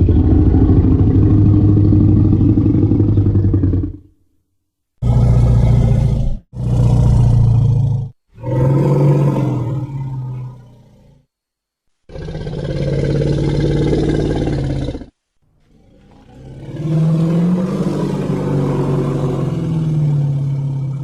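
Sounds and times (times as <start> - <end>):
deep dinosaur roar: 0.0 - 4.1, 5.0 - 11.2, 12.1 - 21.0.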